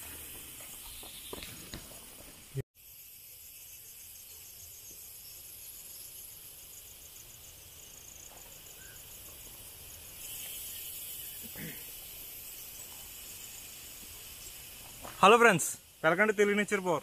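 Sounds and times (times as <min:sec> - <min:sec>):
insects chirping trill: 0:00.0 - 0:17.0
steady high hiss: 0:00.0 - 0:17.0.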